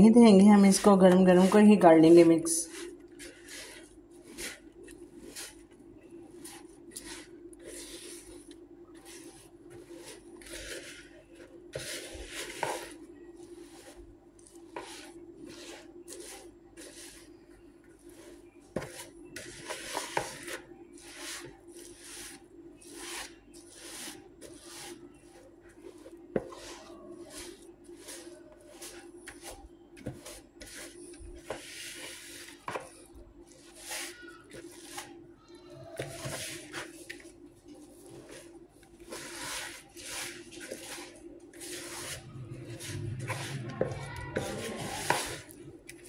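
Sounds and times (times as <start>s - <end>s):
spatula scraping a plastic bowl: 0.1s - 17.4s, 18.0s - 35.2s, 35.9s - 46.0s.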